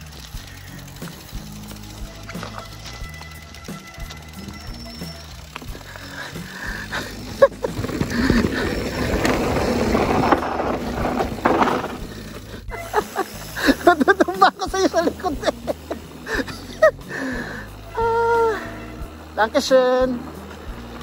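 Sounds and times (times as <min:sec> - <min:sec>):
background music: 0:00.0 - 0:09.6, 0:10.5 - 0:21.0
bike tyres rattling over dirt: 0:00.0 - 0:21.0.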